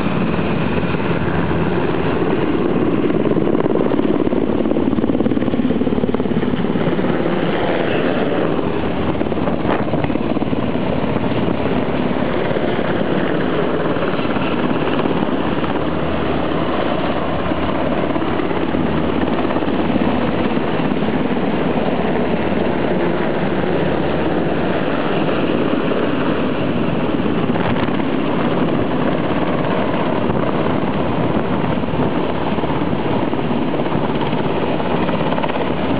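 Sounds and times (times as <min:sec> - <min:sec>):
helicopters flying overhead: 0:00.0 - 0:35.9.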